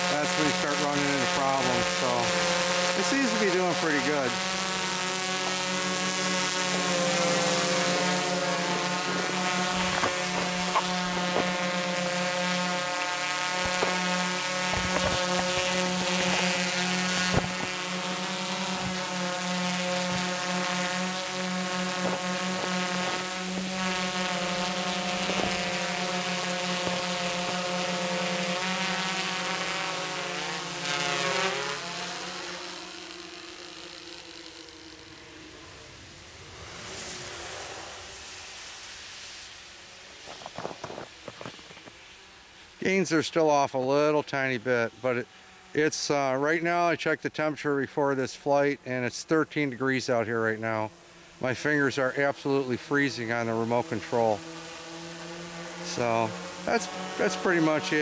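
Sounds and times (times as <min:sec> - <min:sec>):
drone propellers buzzing: 0:00.0 - 0:43.2, 0:44.3 - 0:47.4, 0:48.8 - 0:58.0.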